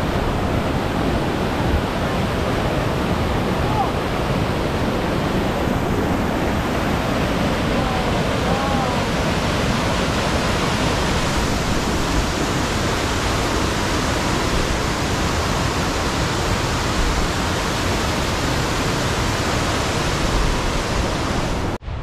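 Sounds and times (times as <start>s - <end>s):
water rushing over boulders: 0.0s - 22.0s.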